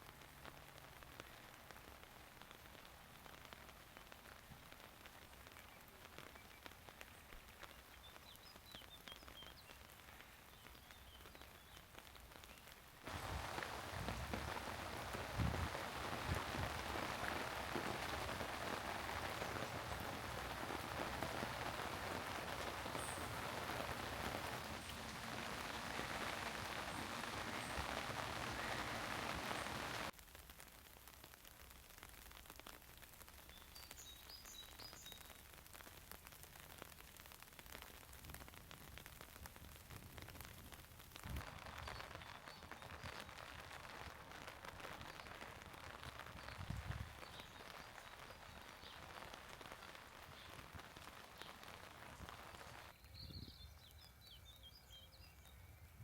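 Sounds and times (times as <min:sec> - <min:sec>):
rain pattering: 0:00.0 - 0:53.3.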